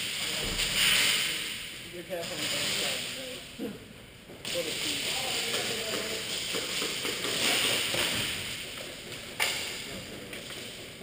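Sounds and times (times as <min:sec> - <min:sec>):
steady hiss: 0:00.0 - 0:03.6, 0:04.4 - 0:11.0.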